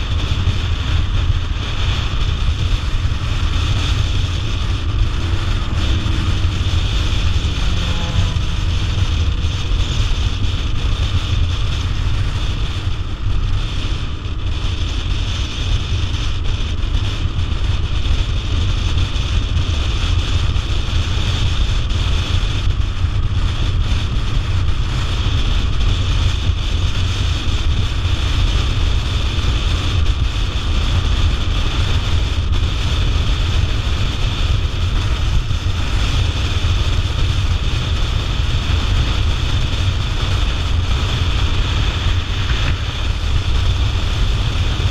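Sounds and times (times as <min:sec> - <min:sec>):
motorcycle engine droning: 0:00.0 - 0:44.9
wind rushing over microphone: 0:00.0 - 0:44.9.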